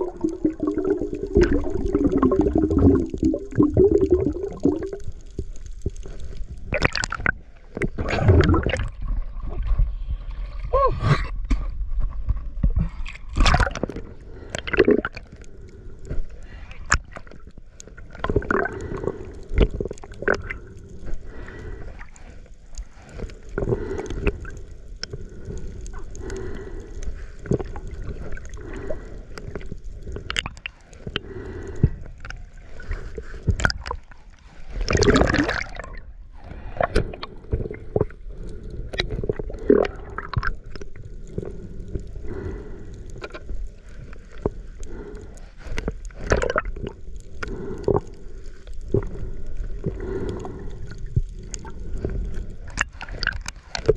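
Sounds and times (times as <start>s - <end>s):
muffled underwater gurgling: 0.0s - 9.9s, 18.1s - 22.4s, 23.0s - 43.9s, 44.5s - 53.9s.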